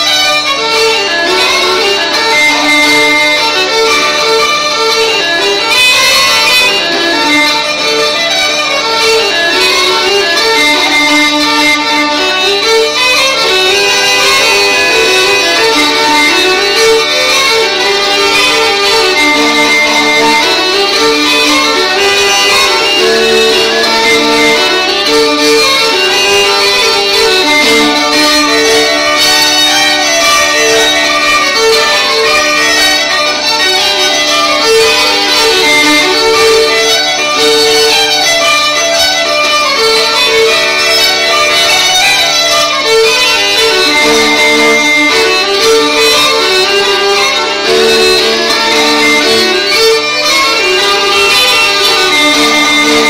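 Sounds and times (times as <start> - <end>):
bagpipes with drone: 0.0 - 53.0
fiddle: 0.0 - 53.0.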